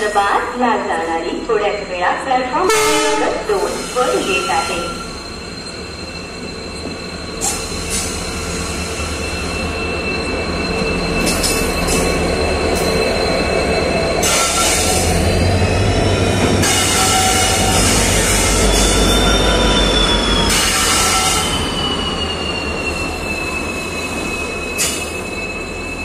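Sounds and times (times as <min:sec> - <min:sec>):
diesel locomotive engine rumble: 0:00.0 - 0:26.0
high-pitched squeal: 0:03.3 - 0:26.0.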